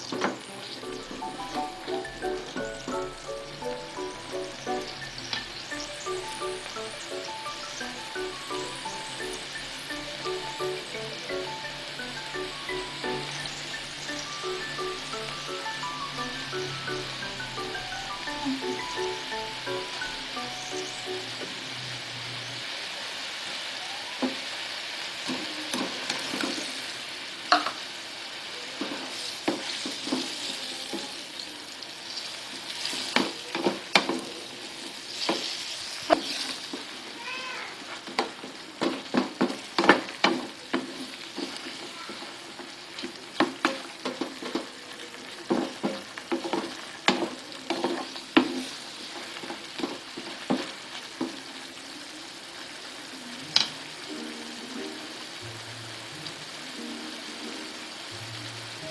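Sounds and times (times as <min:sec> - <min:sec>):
food sizzling in a frying pan: 0:00.0 - 0:58.9.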